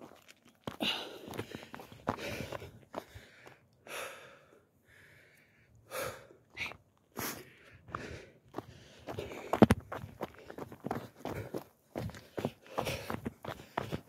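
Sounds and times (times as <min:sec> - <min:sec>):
person breathing: 0:00.7 - 0:14.0.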